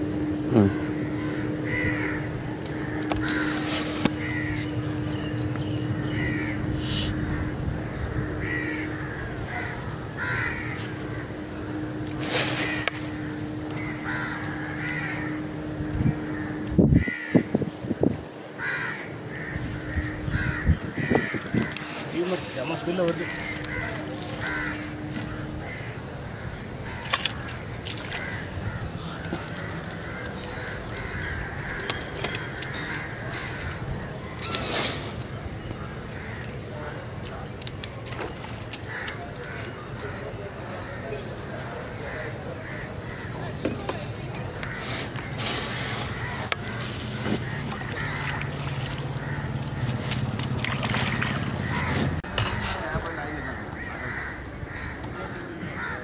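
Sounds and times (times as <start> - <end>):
crows cawing: 0.6 - 5.0, 6.0 - 17.6, 18.6 - 34.6, 35.6 - 37.0, 38.7 - 56.0.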